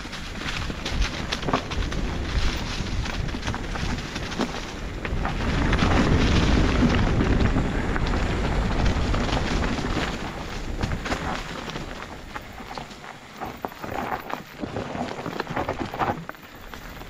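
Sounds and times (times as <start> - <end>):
bike knocks and rattles: 0.0 - 17.0
bike tyres rumbling on dirt: 0.0 - 17.0
wind buffeting microphone: 0.0 - 17.0.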